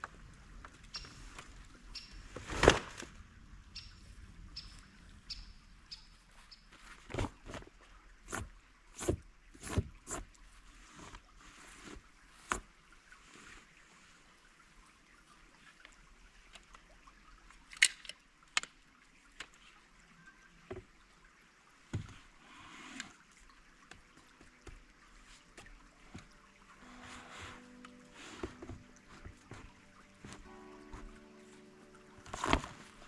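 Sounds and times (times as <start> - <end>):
faint steady background noise: 0.0 - 33.0.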